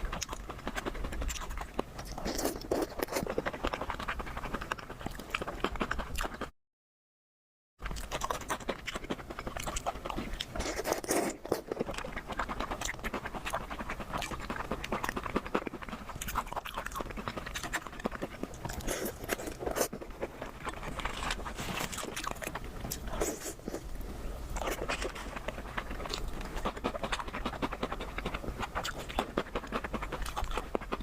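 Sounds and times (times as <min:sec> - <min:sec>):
chewing crunchy food: 0:00.0 - 0:06.5, 0:07.8 - 0:31.0.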